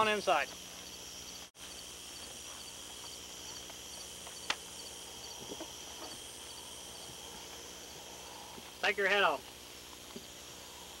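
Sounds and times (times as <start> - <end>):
crickets chirping faintly: 0.0 - 11.0
film sound track hiss: 0.0 - 11.0.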